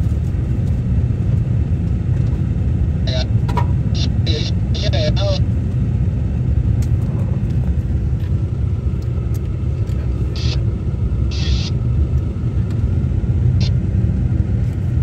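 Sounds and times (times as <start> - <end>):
tyres on road: 0.0 - 15.0
vehicle engine rumble: 0.0 - 15.0.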